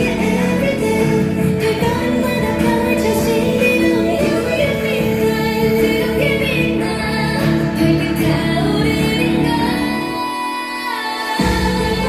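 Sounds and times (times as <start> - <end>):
pop song with female group vocals: 0.0 - 12.0.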